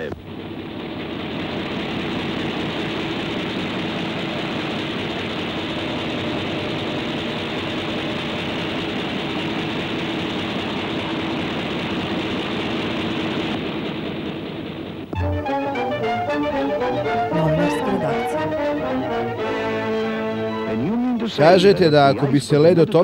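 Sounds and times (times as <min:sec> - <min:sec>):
steady mechanical rumble: 0:00.0 - 0:22.4.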